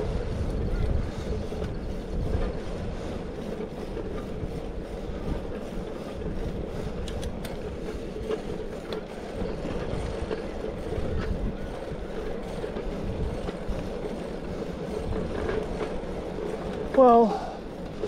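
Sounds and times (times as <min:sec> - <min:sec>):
bicycle tyre road noise: 0:00.0 - 0:18.0
wind rumbling on microphone: 0:00.0 - 0:18.0
light rattling ticks: 0:00.4 - 0:18.0.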